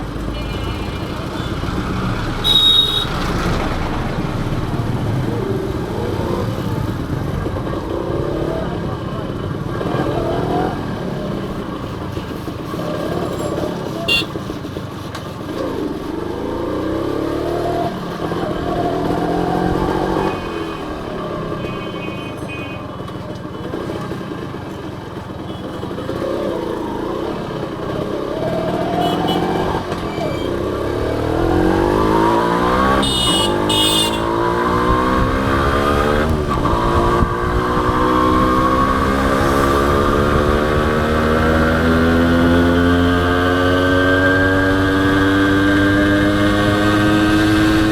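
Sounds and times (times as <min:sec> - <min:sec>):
motorcycle engine accelerating: 0:01.2 - 0:21.7, 0:25.9 - 0:47.9.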